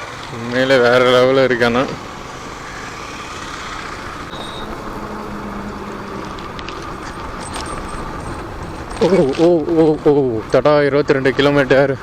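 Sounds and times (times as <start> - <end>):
motorcycle engine running: 0.0 - 11.7
wind and road noise: 0.0 - 12.0.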